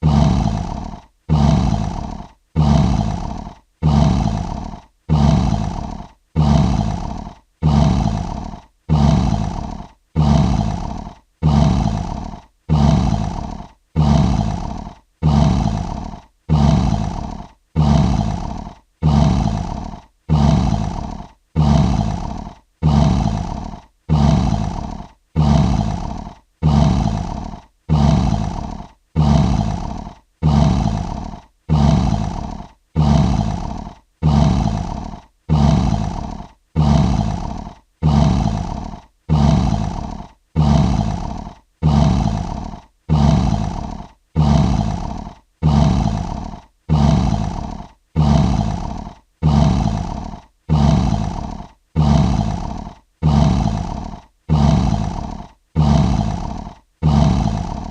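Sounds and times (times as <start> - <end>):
lion roaring grunt: 0.0 - 57.9.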